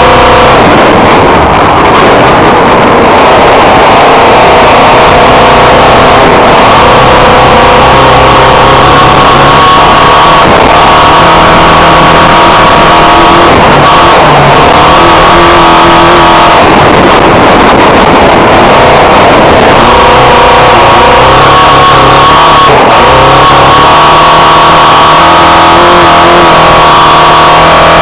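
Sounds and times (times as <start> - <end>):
racing car engine at high revs: 0.0 - 28.0.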